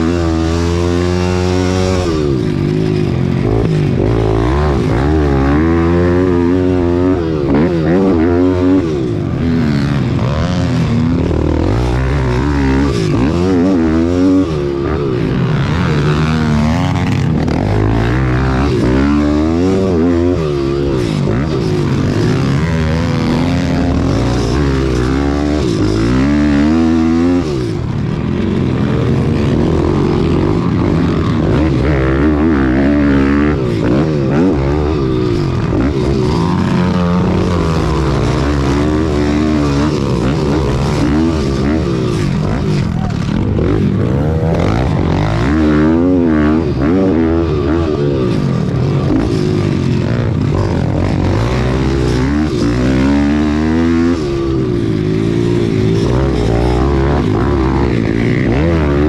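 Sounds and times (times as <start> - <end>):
small engine revving: 0.0 - 59.0.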